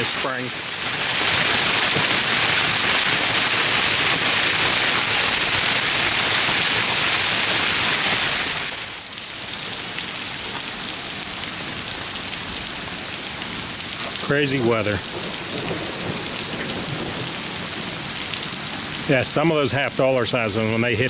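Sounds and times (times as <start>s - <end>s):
hailstones pelting the ground: 0.0s - 21.0s.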